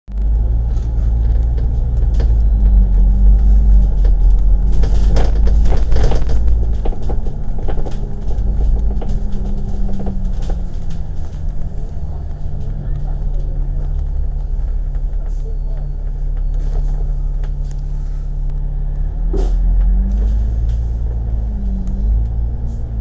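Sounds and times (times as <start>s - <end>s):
bus body rattling: 0.1s - 18.5s, 19.2s - 23.0s
bus engine droning: 0.1s - 23.0s.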